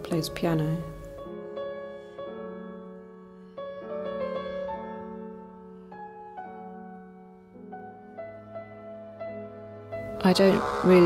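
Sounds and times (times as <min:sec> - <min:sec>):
slow solo piano: 0:00.8 - 0:10.2.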